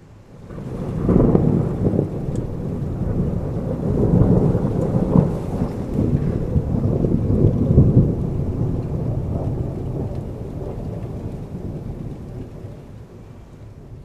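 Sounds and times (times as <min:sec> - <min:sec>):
rain: 0:00.0 - 0:14.0
rolling thunder: 0:00.0 - 0:14.0.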